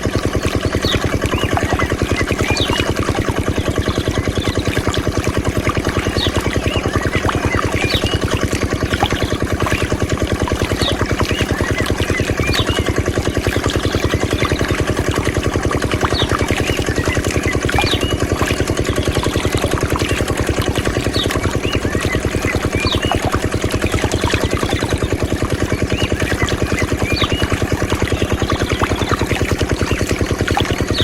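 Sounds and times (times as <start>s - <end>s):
diesel water pump engine chugging: 0.0s - 31.0s.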